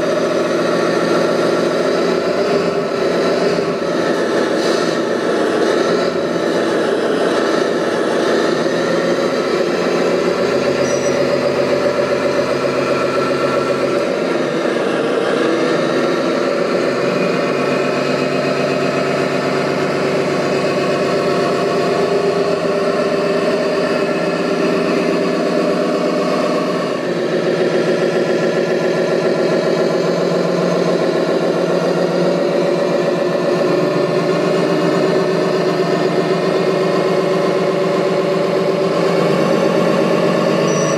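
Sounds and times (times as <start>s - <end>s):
small engine idling: 0.0s - 40.9s.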